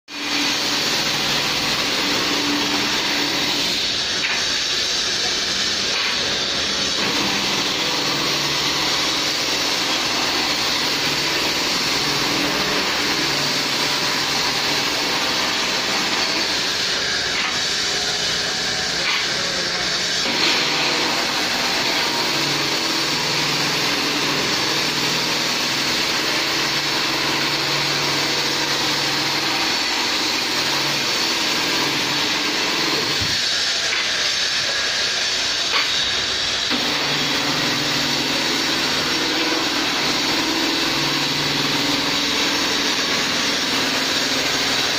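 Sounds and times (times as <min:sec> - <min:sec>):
electric motor humming: 0:00.2 - 0:34.0, 0:35.5 - 0:44.9.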